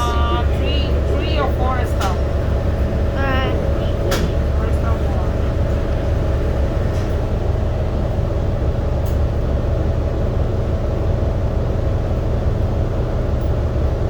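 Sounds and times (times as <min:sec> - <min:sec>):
constant hum: 0:00.0 - 0:14.0
subway train rumbling: 0:00.0 - 0:14.0.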